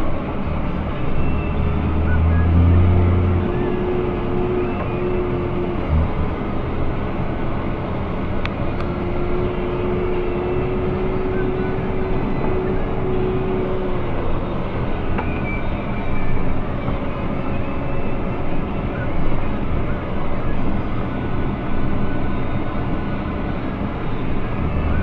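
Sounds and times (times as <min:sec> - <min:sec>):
steady whine: 0:00.0 - 0:25.0
tractor diesel engine running: 0:00.0 - 0:25.0.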